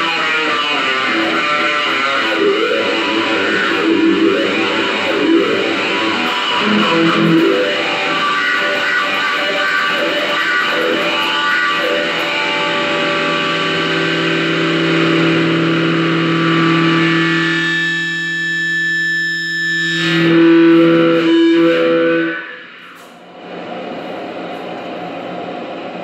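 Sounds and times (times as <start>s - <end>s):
distorted electric guitar with wah: 0.0s - 23.6s.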